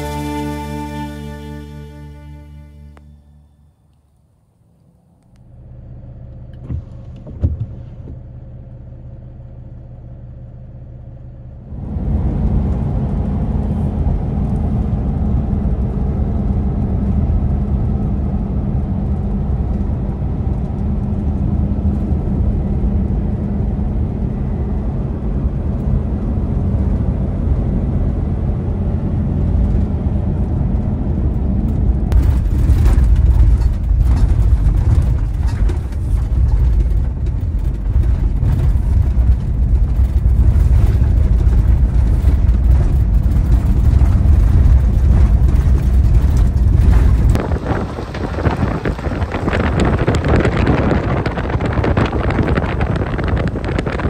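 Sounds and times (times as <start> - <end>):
vehicle hum and road rumble: 0.0 - 54.0.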